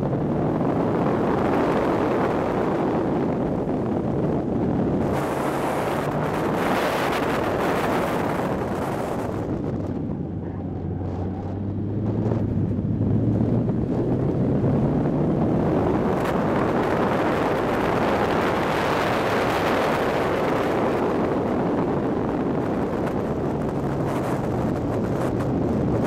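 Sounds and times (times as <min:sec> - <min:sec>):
car engine running hard: 0:00.0 - 0:26.0
wind noise: 0:00.0 - 0:26.0.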